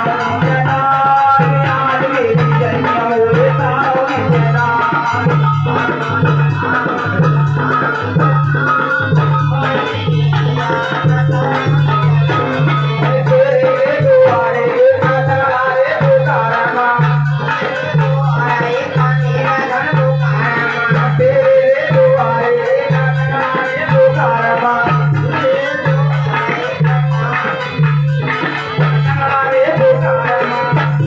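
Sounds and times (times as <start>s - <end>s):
hand percussion: 0.0s - 31.0s.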